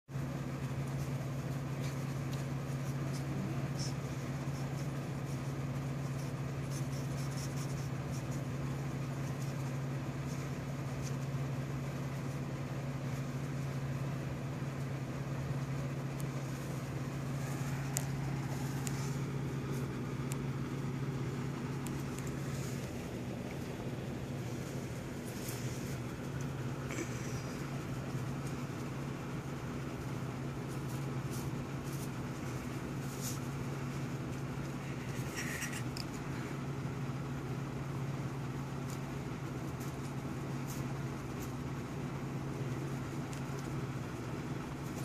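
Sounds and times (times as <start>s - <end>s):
low mechanical hum: 0.1s - 45.0s.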